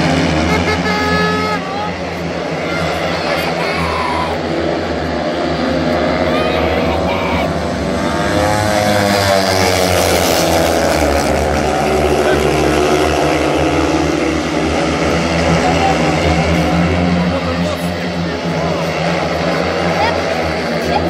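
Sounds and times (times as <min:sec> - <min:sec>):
motorcycle engines passing: 0:00.0 - 0:21.0.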